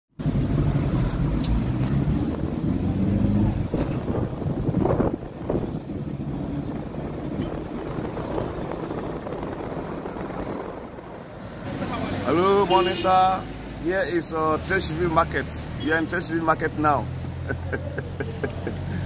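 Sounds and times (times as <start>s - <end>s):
car engine and road noise: 0.1s - 19.0s.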